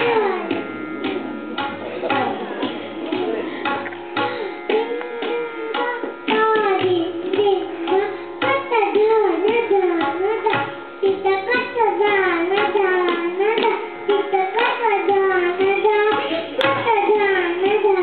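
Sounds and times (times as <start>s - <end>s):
tabla drumming: 0.0s - 18.0s.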